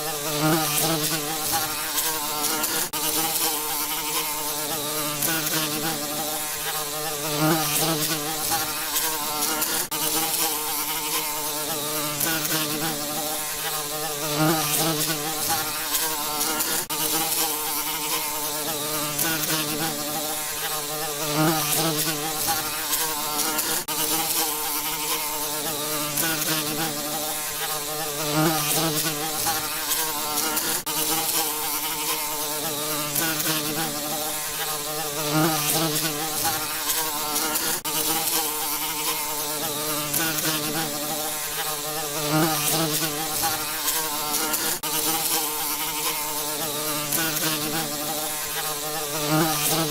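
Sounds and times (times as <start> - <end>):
bees buzzing: 0.0 - 49.9.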